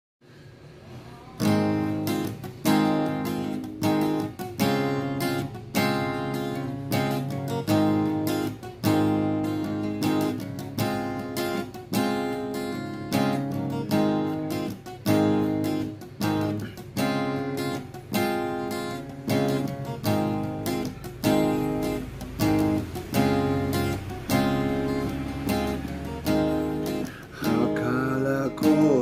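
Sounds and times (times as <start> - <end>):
acoustic guitar strumming: 0.6 - 29.0.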